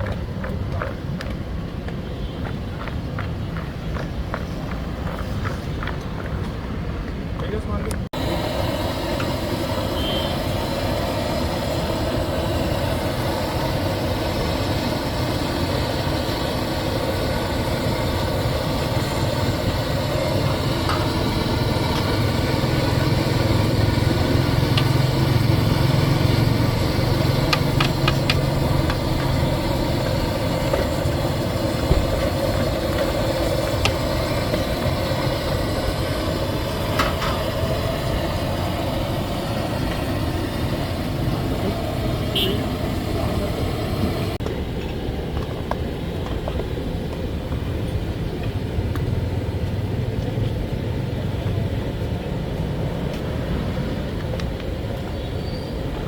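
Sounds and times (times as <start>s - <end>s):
engine-like drone: 7.8s - 56.0s.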